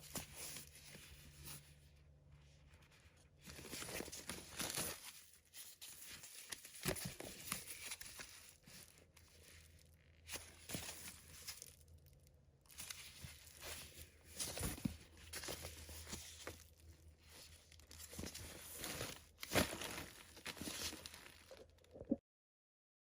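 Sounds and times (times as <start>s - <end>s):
packaging wrap rustling and crinkling: 2.8s - 21.9s.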